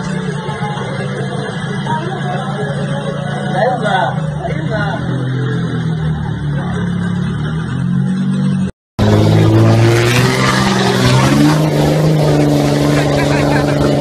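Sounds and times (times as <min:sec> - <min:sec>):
car engine running: 0:00.0 - 0:14.0
truck engine revving: 0:00.0 - 0:14.0.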